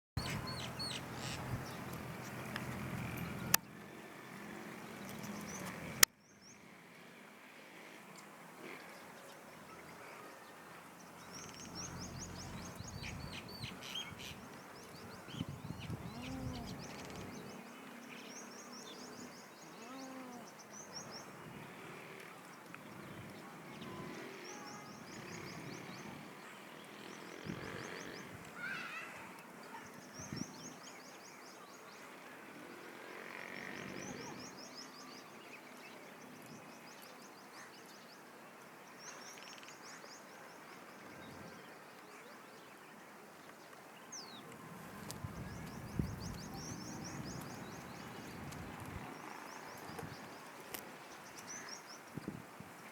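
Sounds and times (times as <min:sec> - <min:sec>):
birds chirping: 0:00.2 - 0:06.7, 0:08.2 - 0:32.3, 0:33.2 - 0:52.4.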